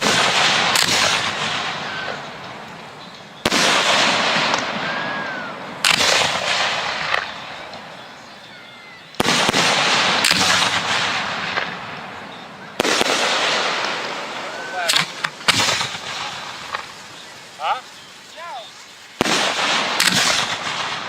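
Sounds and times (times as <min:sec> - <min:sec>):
small firework pops: 0:00.0 - 0:08.4, 0:09.1 - 0:18.4, 0:19.2 - 0:21.0
loud firework bangs: 0:00.0 - 0:21.0.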